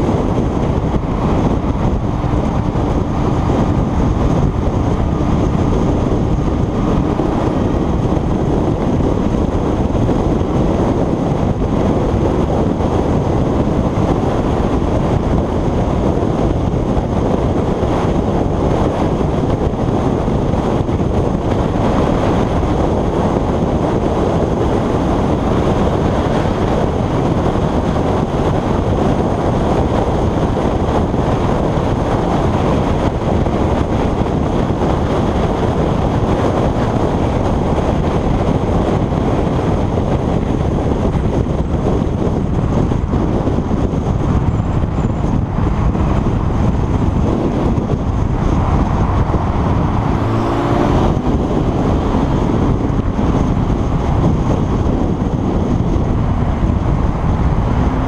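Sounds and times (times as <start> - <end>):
motorcycle engine and tyre noise: 0.0 - 58.0
muffled wind rush: 0.0 - 58.0.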